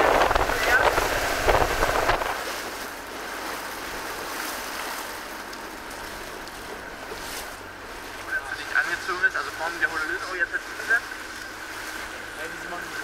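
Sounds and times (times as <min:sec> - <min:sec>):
choppy water washing: 0:00.0 - 0:13.0
wind: 0:00.0 - 0:13.0.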